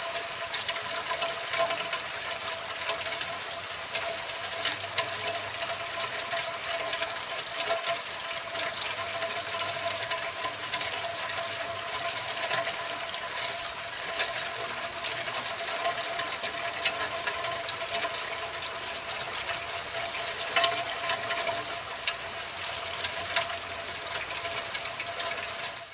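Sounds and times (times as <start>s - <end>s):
rain pattering on windshield: 0.0s - 25.9s.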